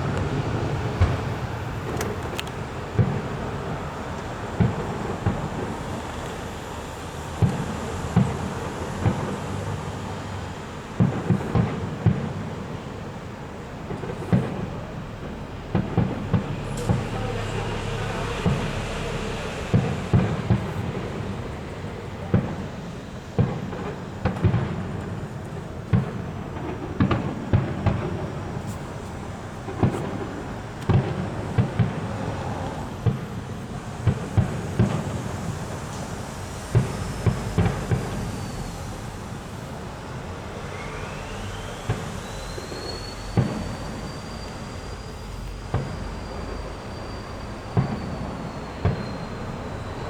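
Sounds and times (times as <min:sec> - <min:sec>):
continuous rumble: 0:00.0 - 0:50.0
fireworks bursting with booms: 0:00.0 - 0:50.0
whistling firework: 0:00.0 - 0:50.0.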